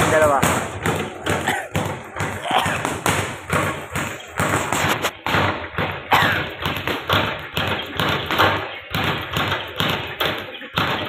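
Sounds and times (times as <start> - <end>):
punches thudding on punching bag: 0.0 - 11.0.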